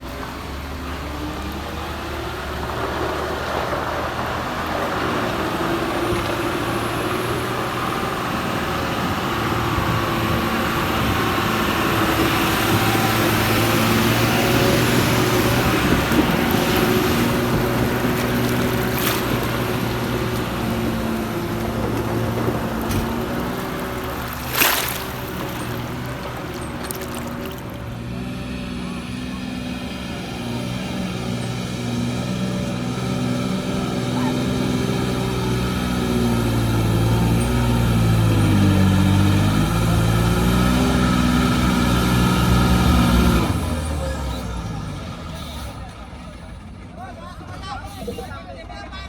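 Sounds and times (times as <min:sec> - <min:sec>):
truck diesel engine running: 0:00.0 - 0:49.0.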